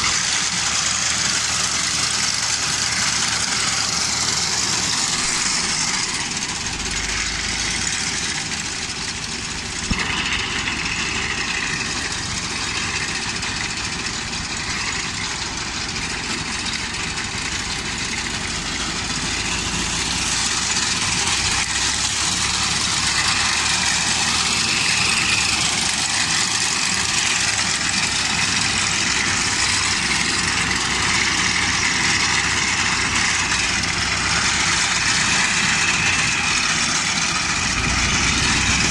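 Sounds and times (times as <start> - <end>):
reaper cutting wheat: 0.0 - 38.9
tractor diesel engine running: 0.0 - 38.9.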